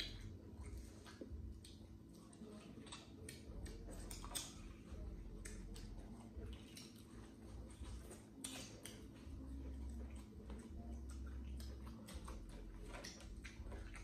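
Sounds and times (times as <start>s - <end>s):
biting and chewing: 0.0s - 14.0s.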